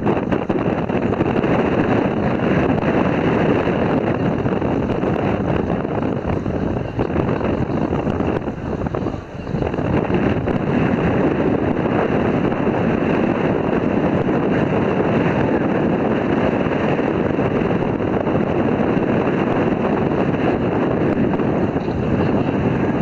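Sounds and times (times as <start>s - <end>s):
boat and sea rushing: 0.0s - 23.0s
wind buffeting microphone: 0.0s - 23.0s.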